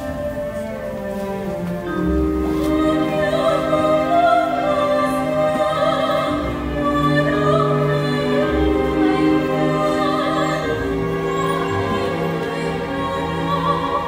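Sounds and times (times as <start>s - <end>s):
sustained orchestra strings: 0.0s - 14.0s
soprano singing with vibrato: 2.3s - 14.0s.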